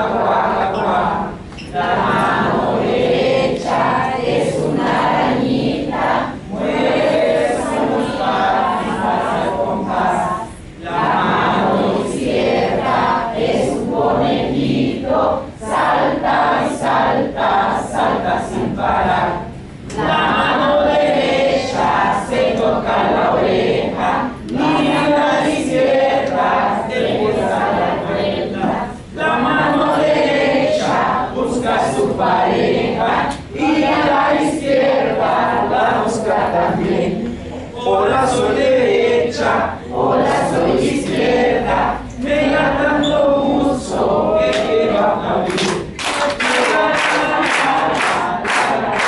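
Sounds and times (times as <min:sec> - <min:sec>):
crowd singing children's song: 0:00.0 - 0:49.0.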